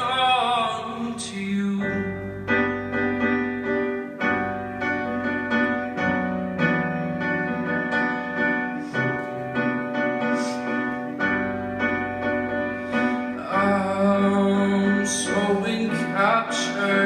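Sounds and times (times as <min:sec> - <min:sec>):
piano repeated chords: 0:00.0 - 0:17.0.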